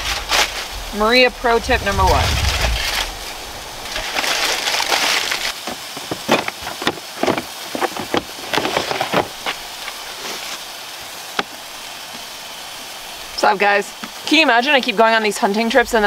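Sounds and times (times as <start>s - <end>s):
aluminium foil crinkling: 0.0s - 13.2s.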